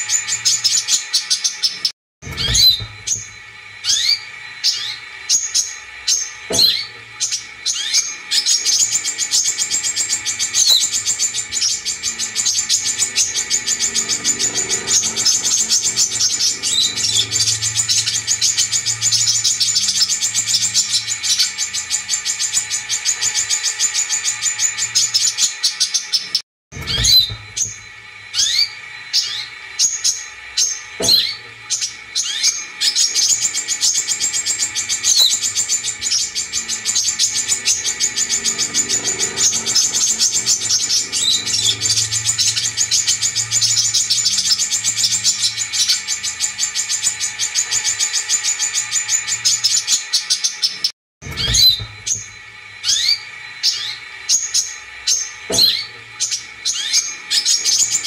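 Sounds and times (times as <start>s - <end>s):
bird trilling and chirping: 0.0s - 58.0s.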